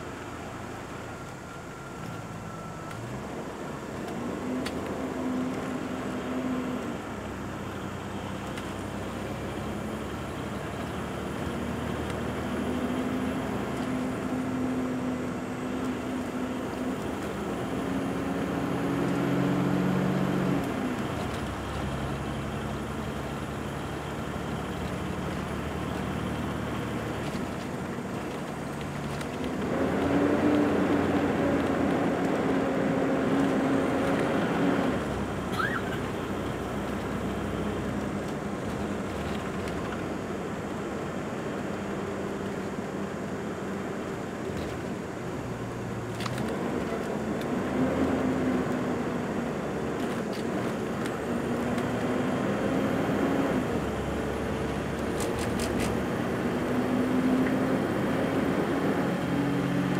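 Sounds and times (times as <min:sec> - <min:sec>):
vehicle road noise: 0:00.0 - 0:59.9.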